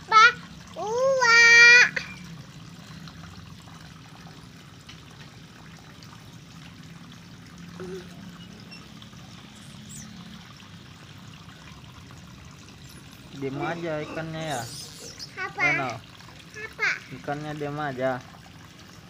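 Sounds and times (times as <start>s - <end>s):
water pouring into pond: 0.0s - 19.0s.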